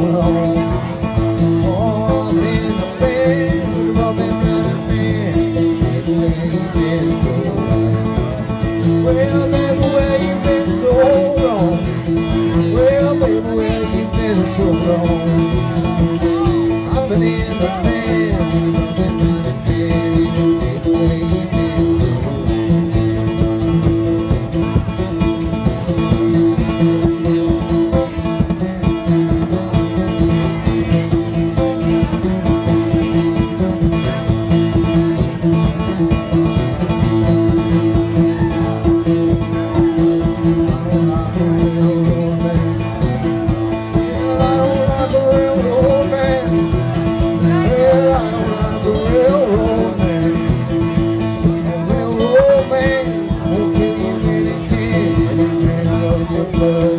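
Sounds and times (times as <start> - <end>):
acoustic guitar: 0.0 - 56.9
banjo: 0.0 - 56.9.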